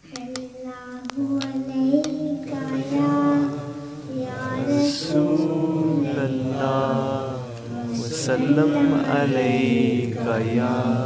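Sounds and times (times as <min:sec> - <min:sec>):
boy chanting melodically: 0:00.0 - 0:11.0.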